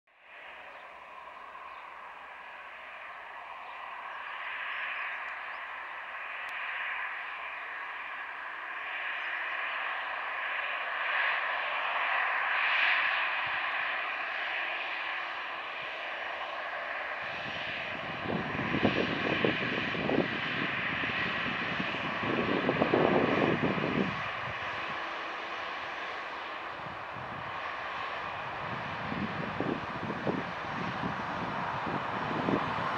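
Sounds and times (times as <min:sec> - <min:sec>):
jet engine low rumble: 0:00.1 - 0:32.9
jet engine whine: 0:00.1 - 0:32.9.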